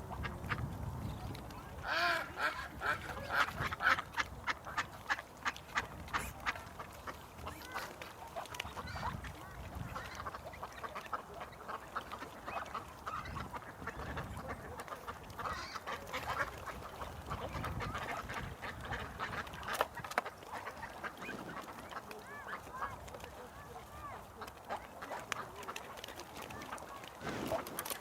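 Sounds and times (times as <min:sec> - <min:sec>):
ducks quacking: 0:01.8 - 0:28.0.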